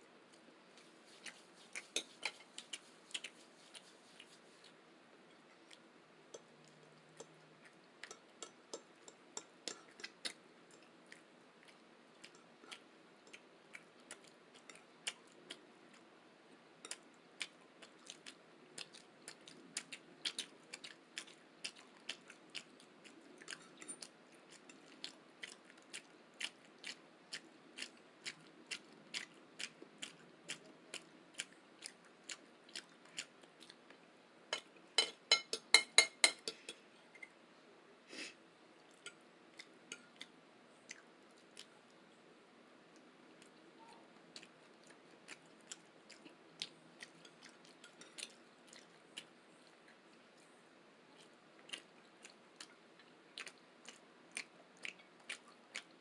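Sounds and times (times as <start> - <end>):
person chewing food: 0.3 - 16.1, 16.8 - 34.0, 38.8 - 42.0, 42.9 - 50.5, 51.2 - 56.0.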